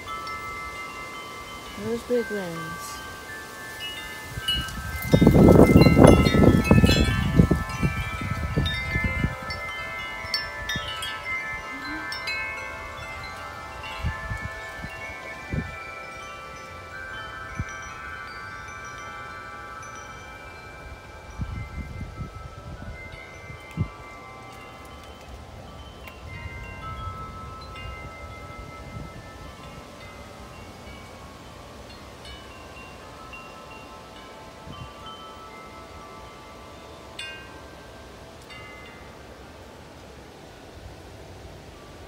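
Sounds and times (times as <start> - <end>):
wind gusts buffeting microphone: 0.0 - 36.6
tube wind chimes ringing: 0.0 - 42.0.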